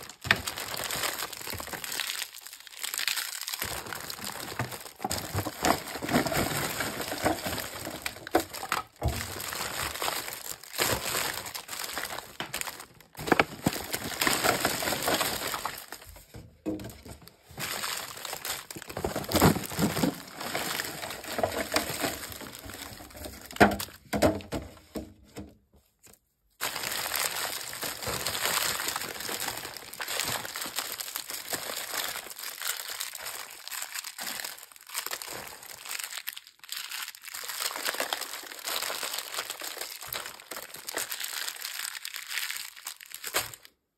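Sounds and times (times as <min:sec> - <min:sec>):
candy wrappers crinkling: 0:00.0 - 0:24.1, 0:26.6 - 0:43.9.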